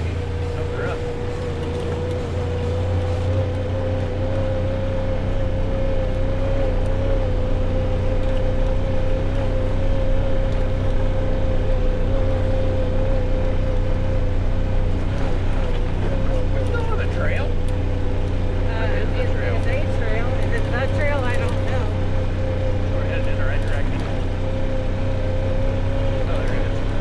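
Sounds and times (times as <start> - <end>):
off-road vehicle engine droning: 0.0 - 27.0.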